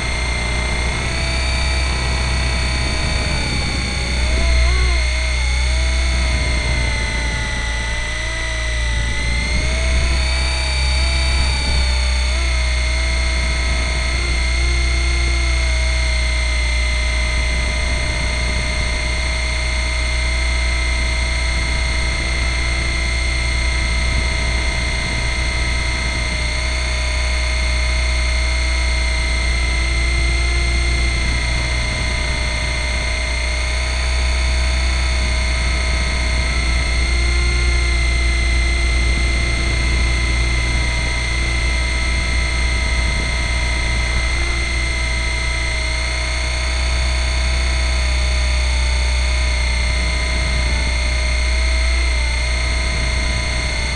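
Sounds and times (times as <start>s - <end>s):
rc helicopter motor whine: 0.0s - 53.9s
rotor rumble: 0.0s - 53.9s.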